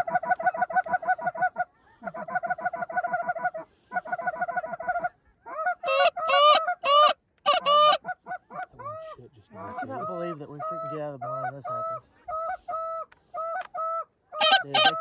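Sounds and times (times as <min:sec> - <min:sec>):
goose clucking: 0:00.0 - 0:15.0
goose honking: 0:02.3 - 0:15.0.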